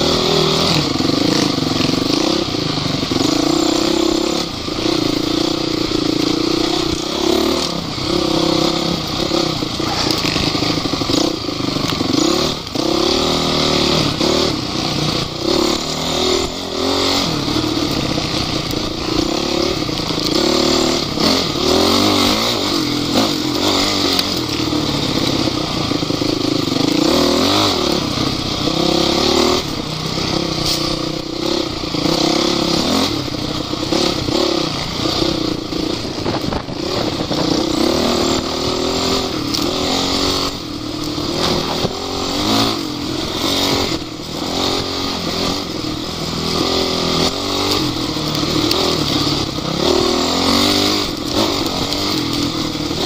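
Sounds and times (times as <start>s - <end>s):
off-road vehicle engines revving: 0.0s - 53.0s.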